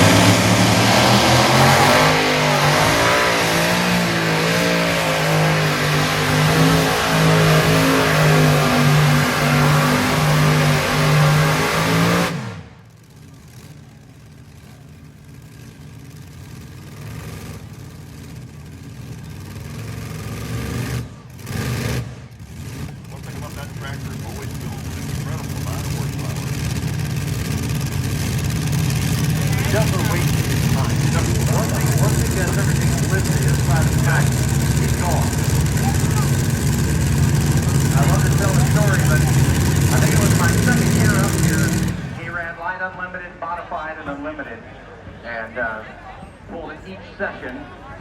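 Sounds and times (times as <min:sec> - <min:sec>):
tractor engine running flat out: 0:00.0 - 0:42.8
quieter engine: 0:00.0 - 0:48.0.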